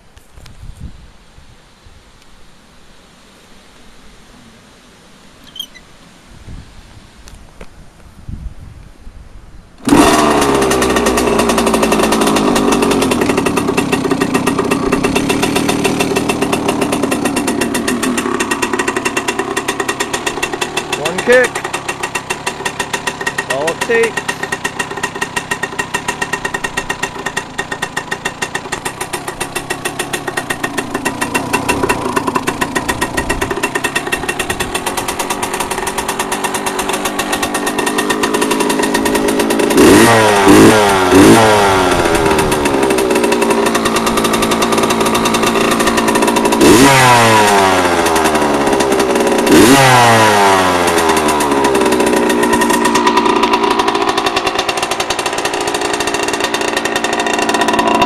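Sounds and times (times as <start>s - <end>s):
dirt bike engine idling and revving: 9.8s - 58.0s.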